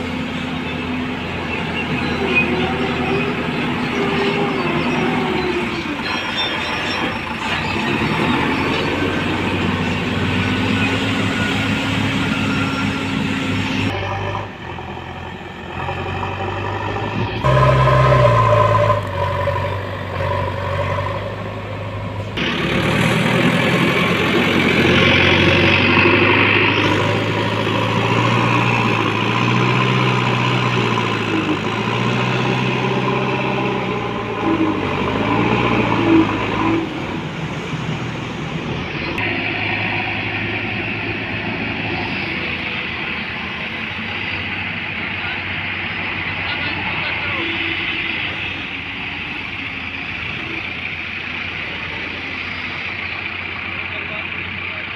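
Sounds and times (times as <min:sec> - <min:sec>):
diesel engine working under load: 0:00.0 - 0:54.9.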